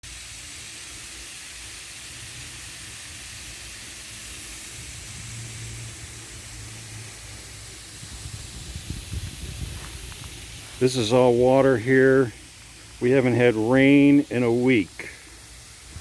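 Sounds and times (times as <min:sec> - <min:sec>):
sprinklers hissing: 0:00.0 - 0:16.0.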